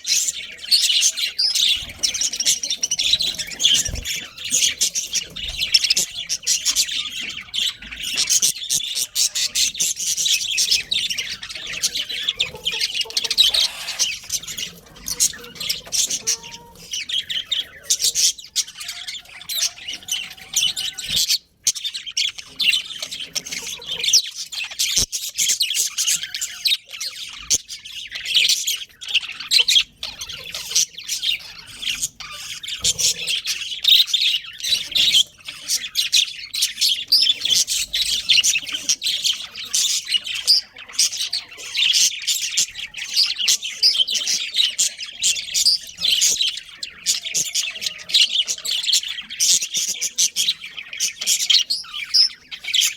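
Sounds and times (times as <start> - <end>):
budgerigars chirping and chattering: 0.0 - 52.9.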